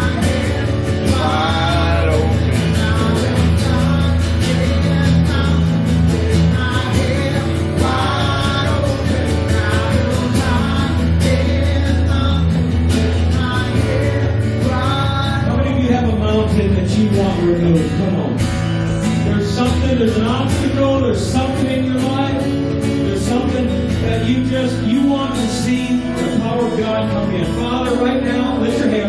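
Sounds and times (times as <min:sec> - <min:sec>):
person singing melody: 0:00.0 - 0:29.0
strummed guitar: 0:00.0 - 0:29.0
sustained bass notes: 0:00.0 - 0:29.0.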